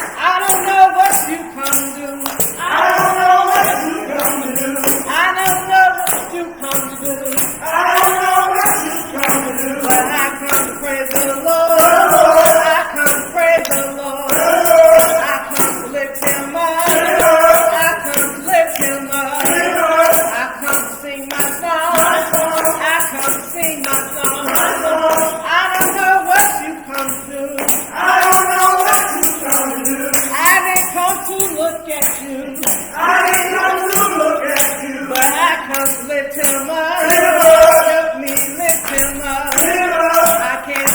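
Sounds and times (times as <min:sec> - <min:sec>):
tambourine shaken: 0:00.0 - 0:40.9
voices singing gospel: 0:00.0 - 0:40.9.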